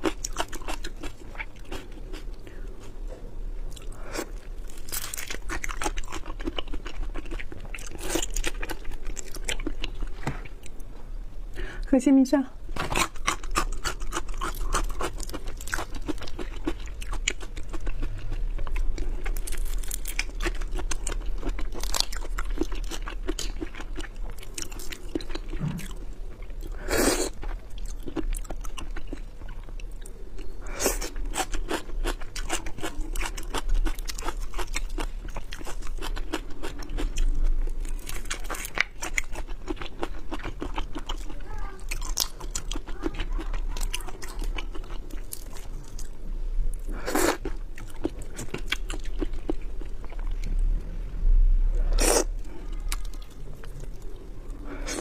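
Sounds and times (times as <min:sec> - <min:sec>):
chewing and crunching: 0:00.0 - 0:03.0, 0:03.7 - 0:10.9, 0:12.8 - 0:50.6, 0:52.0 - 0:55.0.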